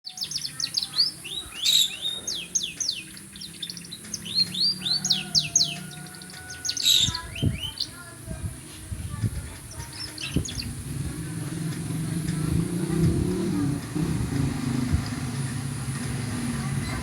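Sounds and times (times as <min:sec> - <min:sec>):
canary singing: 0:00.0 - 0:08.2, 0:09.5 - 0:15.9.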